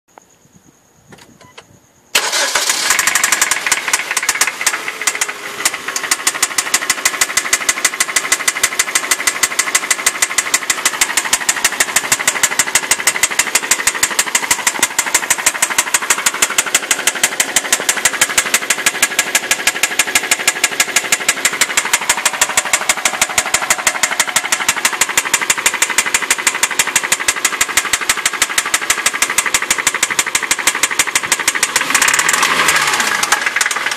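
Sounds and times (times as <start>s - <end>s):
car engine starting: 1.2s - 33.9s
rapid engine clicking: 2.2s - 33.9s.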